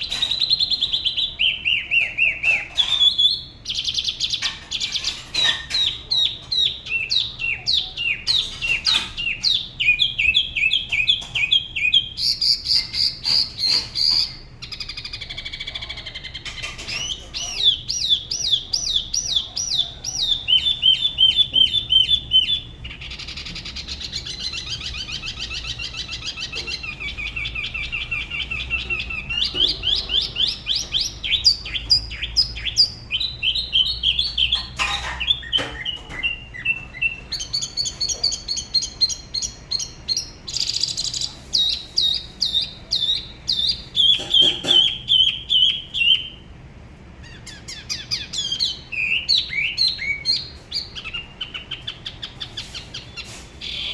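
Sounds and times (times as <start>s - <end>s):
bird singing whistled notes: 0.0s - 15.6s, 16.4s - 34.7s, 35.3s - 46.4s, 47.4s - 53.9s.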